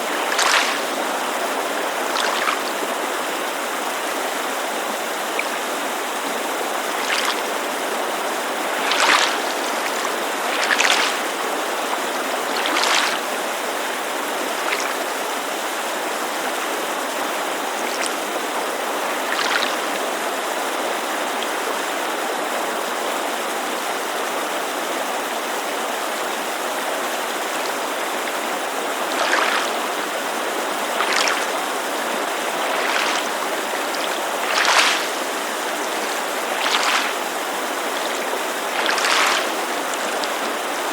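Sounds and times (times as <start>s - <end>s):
lake water lapping on shore: 0.0s - 22.4s, 26.1s - 40.9s
creek rushing: 0.0s - 40.9s.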